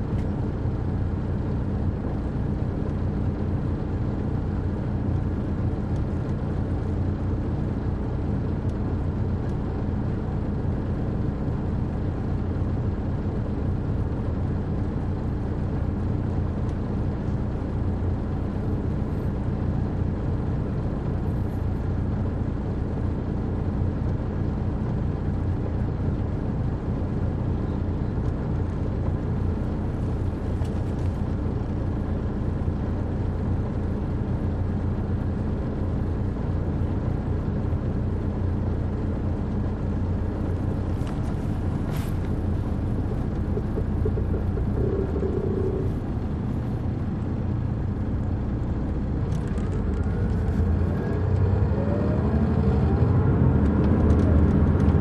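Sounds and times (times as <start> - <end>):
diesel bus engine running: 0.0 - 55.0.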